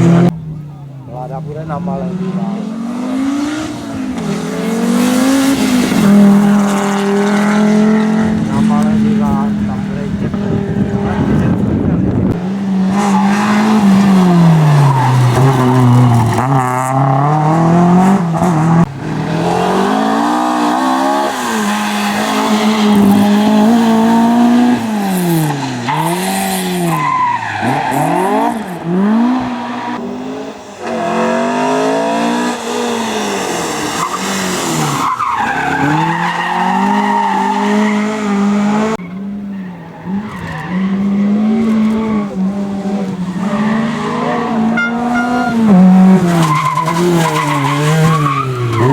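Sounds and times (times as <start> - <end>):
rally car engine revving: 0.0 - 48.9.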